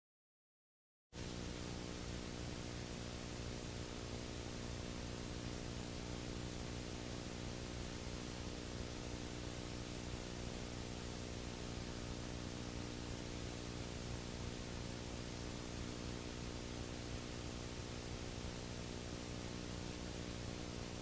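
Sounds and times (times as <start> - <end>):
electrical hum and buzz: 1.2 - 21.0
steady hiss: 1.2 - 21.0.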